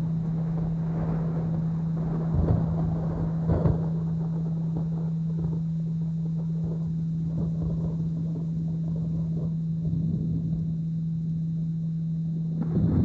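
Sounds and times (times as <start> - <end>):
low uneven rumble: 0.0 - 13.0
rain: 0.0 - 13.0
steady low hum tone: 0.0 - 13.0.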